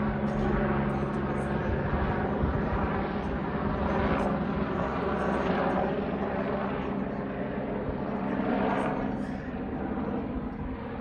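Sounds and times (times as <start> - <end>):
helicopter drone overhead: 0.0 - 11.0.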